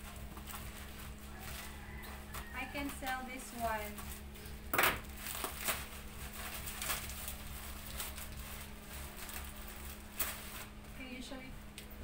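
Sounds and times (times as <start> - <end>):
plastic packaging crinkling: 0.0 - 12.0
steady low hum: 0.0 - 12.0.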